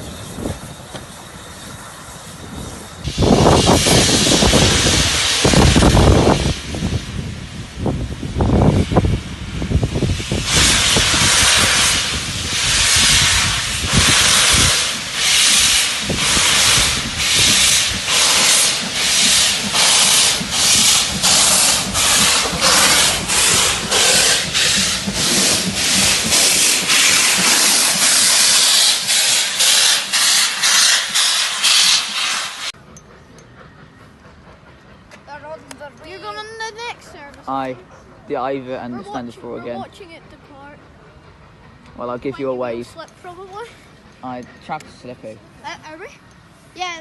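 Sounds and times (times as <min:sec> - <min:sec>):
steam locomotive exhaust chuffing: 0:00.0 - 0:47.0.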